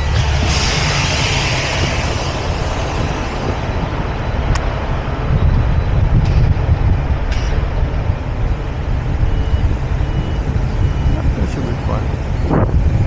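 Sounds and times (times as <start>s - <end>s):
reversing alarm beeping: 0.0s - 13.0s
truck diesel engine rumbling: 0.0s - 13.0s.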